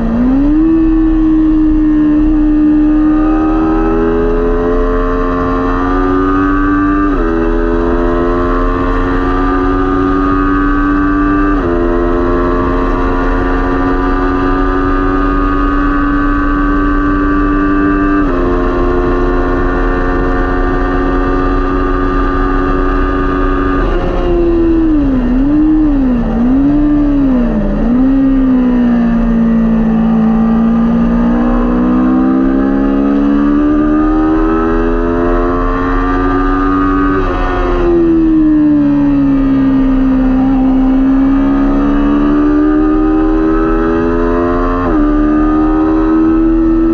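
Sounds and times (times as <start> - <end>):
motorcycle engine at full throttle: 0.0 - 46.9.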